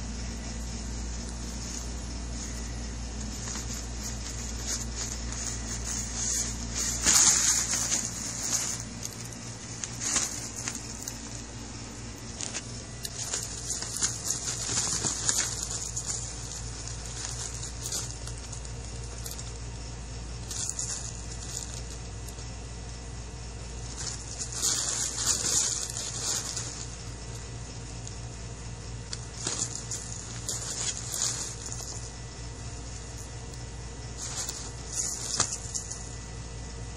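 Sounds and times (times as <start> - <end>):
fabric cat tunnel rustling: 0.2 - 19.6, 20.3 - 22.2, 23.7 - 36.2.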